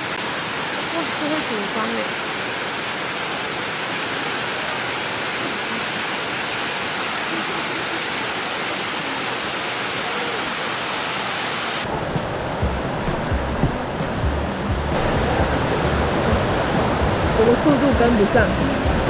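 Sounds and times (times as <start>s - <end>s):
stream and waterfall rushing: 0.0s - 19.0s.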